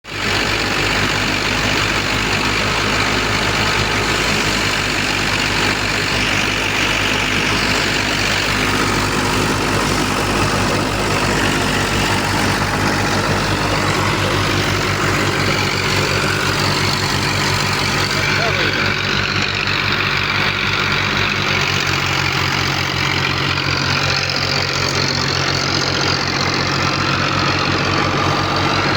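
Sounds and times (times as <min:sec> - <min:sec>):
broad rushing noise: 0:00.0 - 0:28.9
harvesting machinery running: 0:00.0 - 0:28.9
heavy engine hum: 0:00.0 - 0:28.9.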